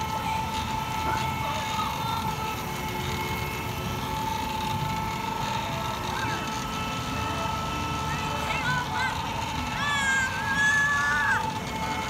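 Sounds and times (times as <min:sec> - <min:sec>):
high motor whine: 0:00.0 - 0:12.0
steady mechanical hum: 0:00.0 - 0:12.0.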